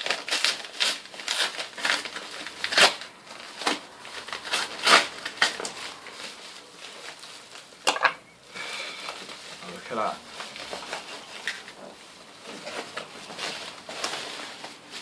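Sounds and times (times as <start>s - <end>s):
packaging crinkling and rustling: 0.0s - 8.0s, 8.7s - 15.0s.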